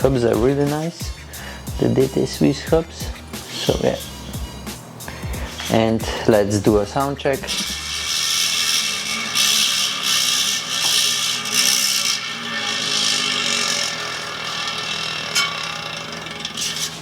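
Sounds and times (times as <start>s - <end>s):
bicycle freehub buzzing: 0.0s - 17.0s.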